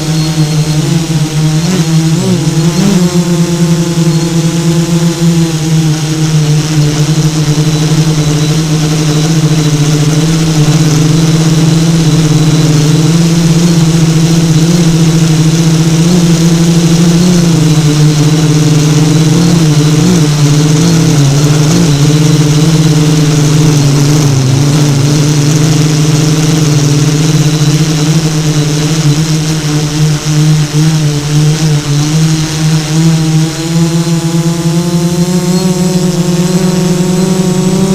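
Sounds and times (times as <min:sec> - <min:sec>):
drone motors humming: 0:00.0 - 0:37.9.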